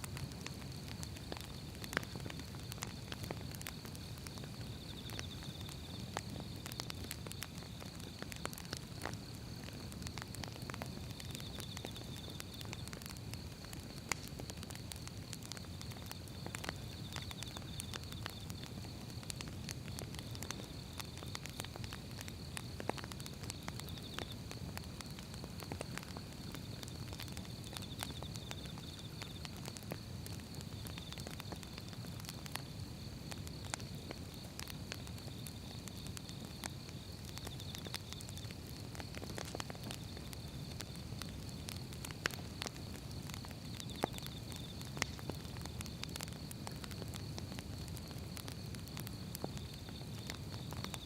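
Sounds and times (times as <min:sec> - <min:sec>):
firewood crackling and popping: 0:00.0 - 0:51.0
low rumble of flames: 0:00.0 - 0:51.0.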